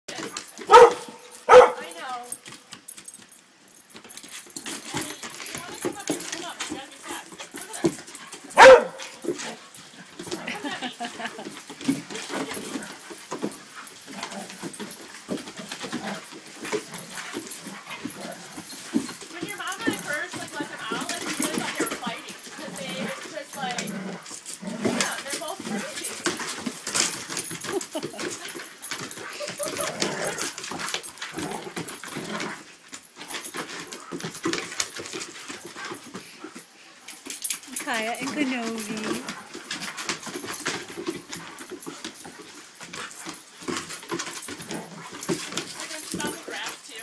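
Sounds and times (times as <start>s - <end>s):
paws clicking on wooden boards: 0.1s - 47.0s
scuffling: 4.2s - 47.0s
dogs growling and grunting: 4.7s - 46.7s.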